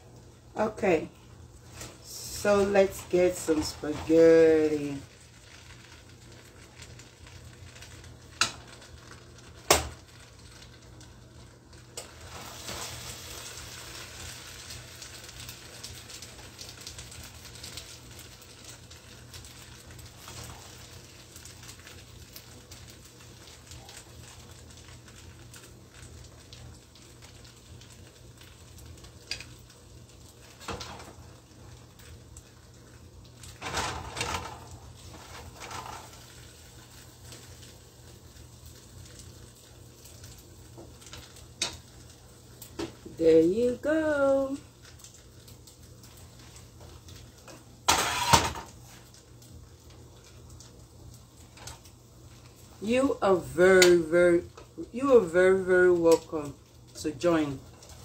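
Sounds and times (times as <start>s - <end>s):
low steady hiss: 0.0s - 58.0s.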